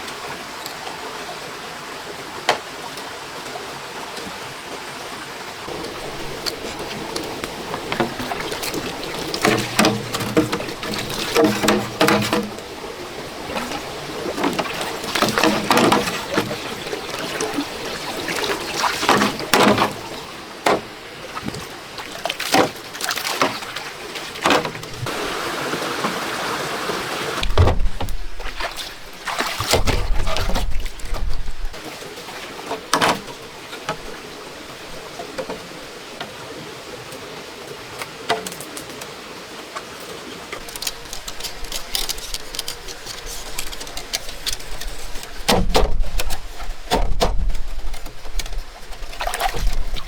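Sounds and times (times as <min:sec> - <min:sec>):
water sloshing and splashing: 0:00.0 - 0:50.0.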